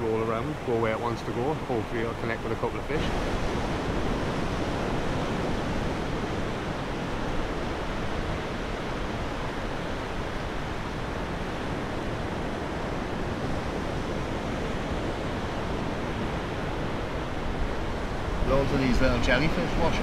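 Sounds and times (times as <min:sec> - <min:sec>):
sea surf breaking on beach: 0:00.0 - 0:20.0.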